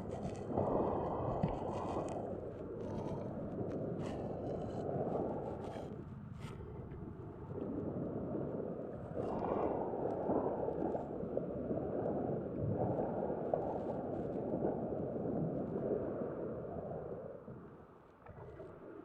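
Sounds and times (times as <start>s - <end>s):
sea water washing: 0.0s - 6.0s, 6.6s - 17.5s
wind rumbling on microphone: 0.0s - 19.0s.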